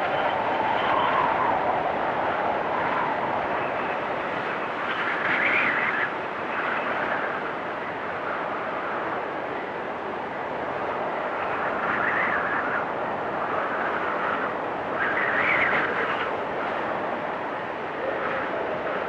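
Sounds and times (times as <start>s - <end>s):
storm wind gusting and whistling: 0.0s - 19.0s.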